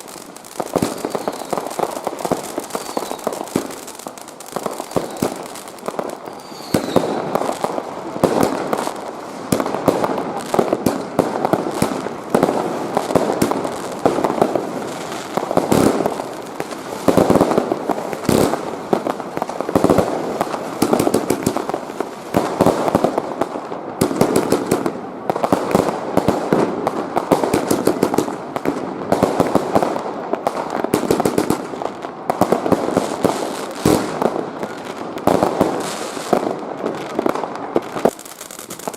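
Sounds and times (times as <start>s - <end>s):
fireworks and firecrackers: 0.0s - 38.9s.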